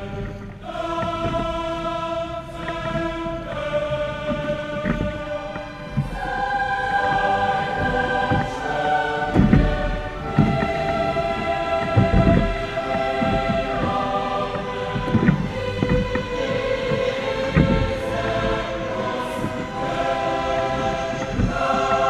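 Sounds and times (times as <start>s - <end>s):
choir-like held chords: 0.0s - 22.0s.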